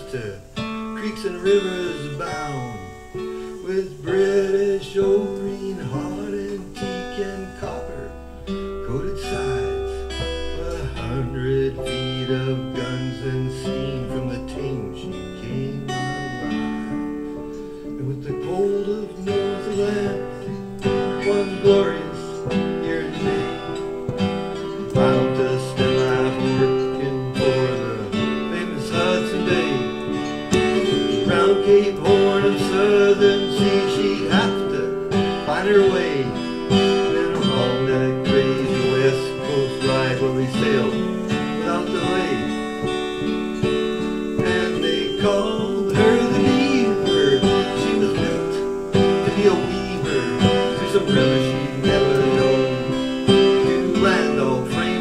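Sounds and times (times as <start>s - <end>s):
acoustic guitar strummed and picked: 0.0s - 55.0s
held accompanying notes: 0.0s - 55.0s.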